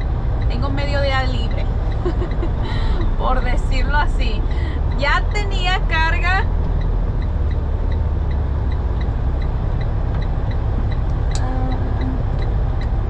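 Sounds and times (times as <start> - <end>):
diesel truck engine rumble: 0.0 - 13.0
turn signal ticking: 0.0 - 13.0.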